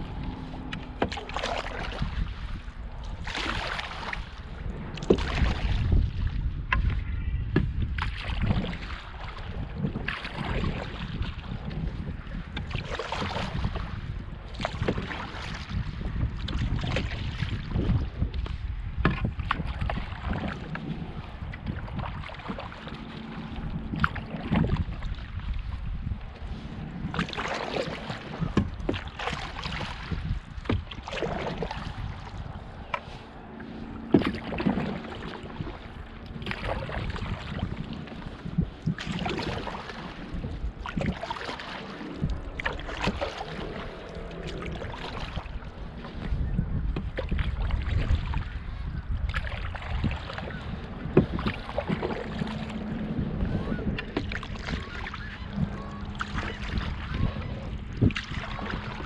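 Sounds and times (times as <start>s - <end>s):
canoe paddle swishing through water: 0.0s - 59.0s.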